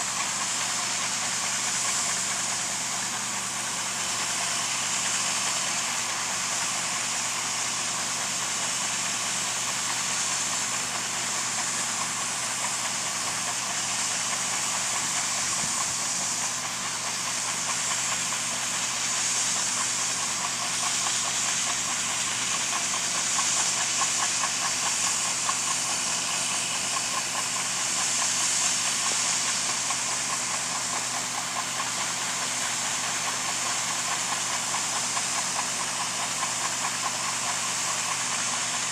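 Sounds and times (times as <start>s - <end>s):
loud even hiss: 0.0s - 38.9s
machinery engine hum: 0.0s - 38.9s.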